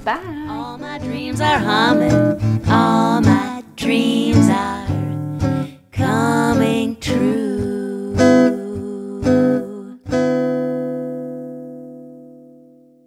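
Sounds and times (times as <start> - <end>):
person singing: 0.0 - 11.0
strummed acoustic guitar: 0.0 - 13.0.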